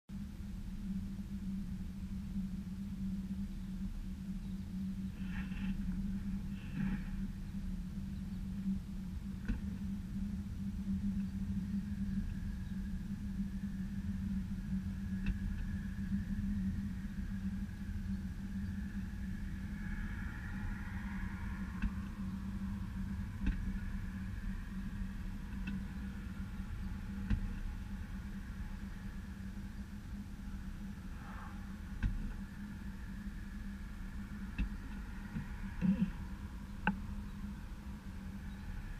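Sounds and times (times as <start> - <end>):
high whine: 0.1 - 38.9.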